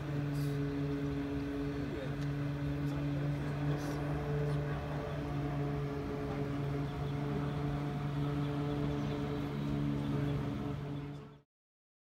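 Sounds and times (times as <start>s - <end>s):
low machine hum: 0.0s - 11.4s.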